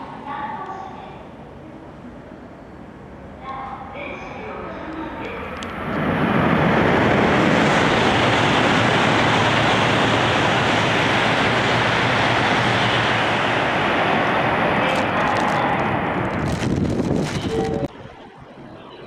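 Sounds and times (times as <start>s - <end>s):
high-speed train passing: 0.0s - 18.2s.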